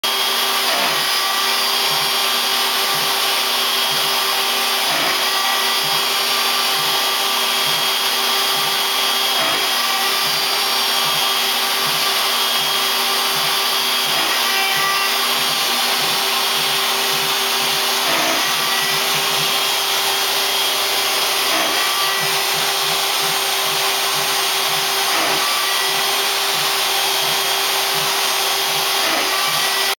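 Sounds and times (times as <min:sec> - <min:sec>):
dust-collection vacuum running: 0:00.0 - 0:30.0
router milling aluminum: 0:00.0 - 0:30.0.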